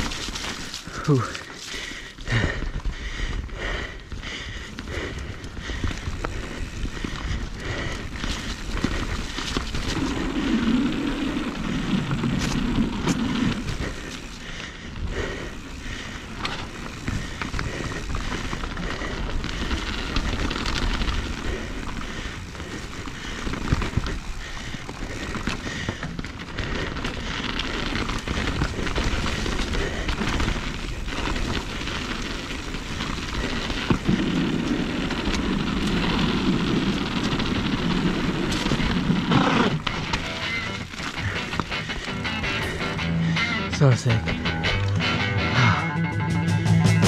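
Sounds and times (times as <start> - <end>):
bike tyre noise on rocks: 0.0 - 45.1.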